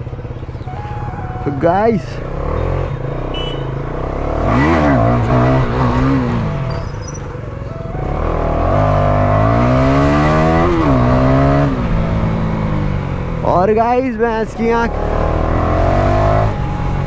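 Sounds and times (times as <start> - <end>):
motorcycle engine revving: 1.3 - 17.0.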